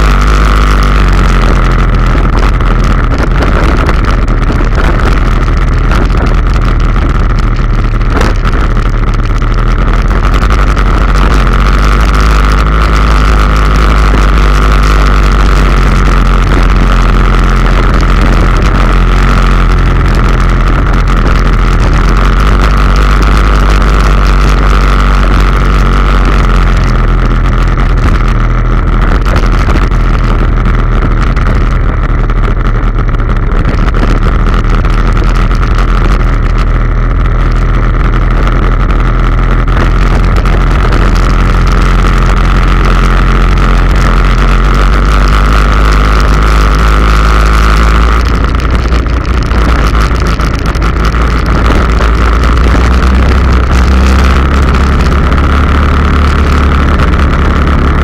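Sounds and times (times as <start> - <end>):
quad bike engine running: 0.0 - 58.0
steady whine: 0.0 - 58.0.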